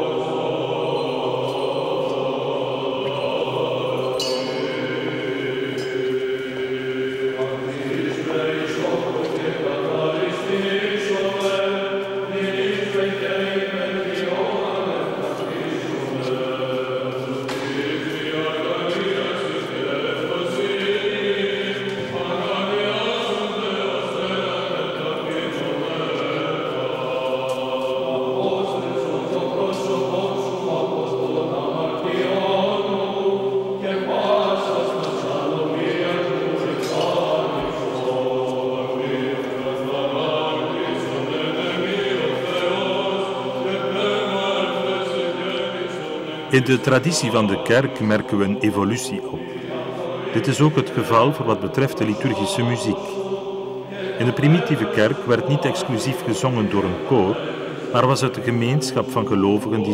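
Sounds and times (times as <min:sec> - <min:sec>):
male choir chanting: 0:00.0 - 0:59.9.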